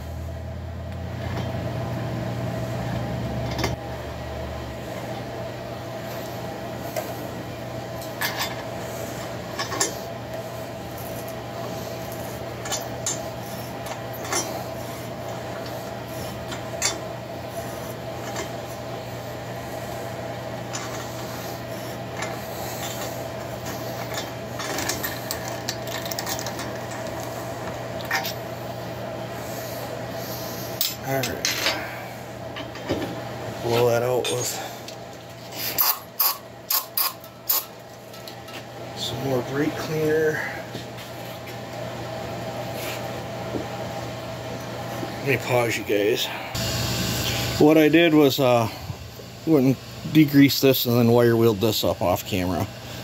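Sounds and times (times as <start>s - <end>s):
steady background hum: 0.0s - 53.0s.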